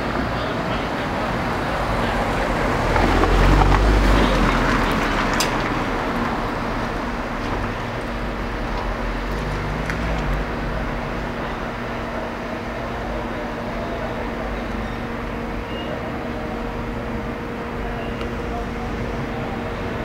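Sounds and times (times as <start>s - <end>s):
passing vehicle rumble: 0.0s - 20.0s
street traffic noise: 0.0s - 20.0s.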